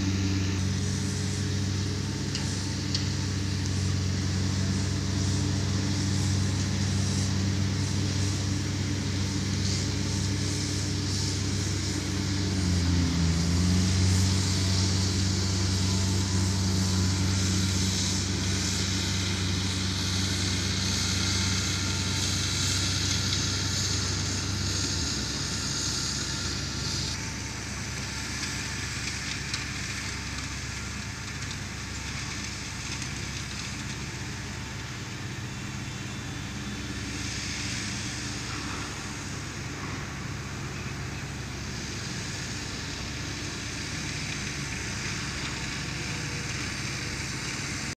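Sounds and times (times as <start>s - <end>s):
distant tractor engine hum: 0.0s - 47.9s
steady hiss: 0.0s - 47.9s.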